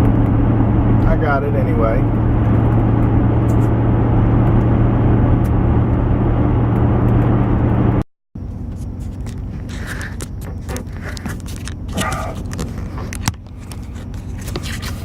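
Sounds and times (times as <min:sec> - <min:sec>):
road noise: 0:00.0 - 0:15.0
truck engine hum: 0:00.0 - 0:15.0.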